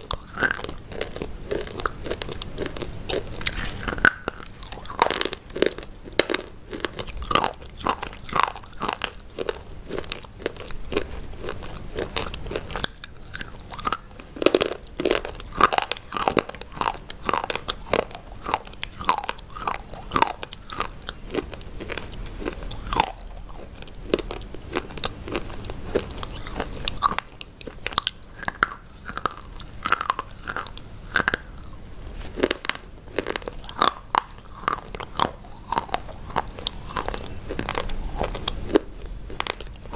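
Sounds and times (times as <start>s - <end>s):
person crunching brittle sticks: 0.0s - 39.9s.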